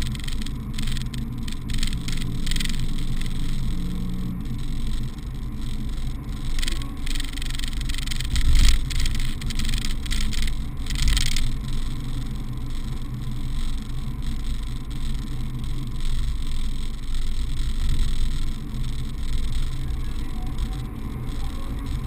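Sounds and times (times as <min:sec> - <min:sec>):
car engine drone: 0:00.0 - 0:22.0
road noise: 0:00.0 - 0:22.0.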